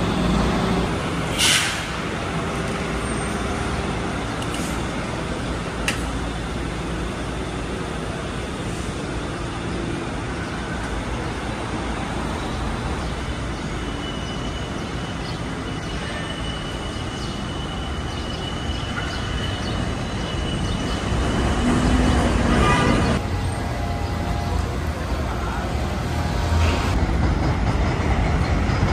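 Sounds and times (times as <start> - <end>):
city street traffic rumble: 0.0 - 28.9.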